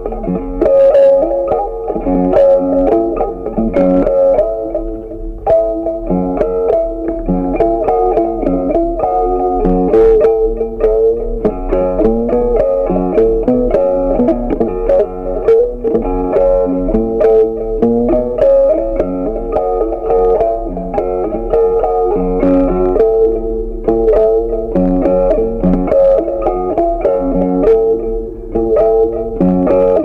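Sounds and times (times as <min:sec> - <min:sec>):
picked guitar melody: 0:00.0 - 0:30.0.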